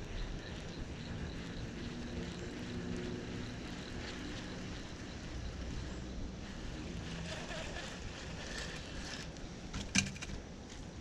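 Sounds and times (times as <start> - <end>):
distant engine rumble: 0.0 - 10.7.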